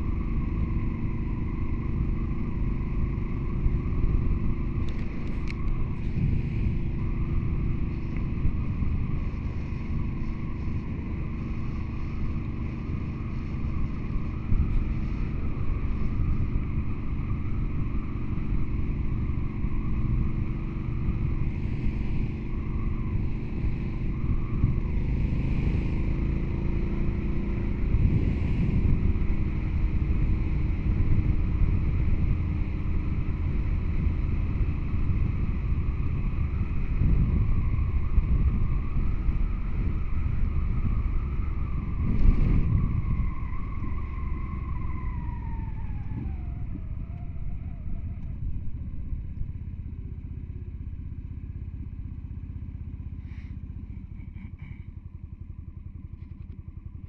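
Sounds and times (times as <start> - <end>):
wind rush on microphone: 0.0 - 54.6
engine running: 0.0 - 57.0.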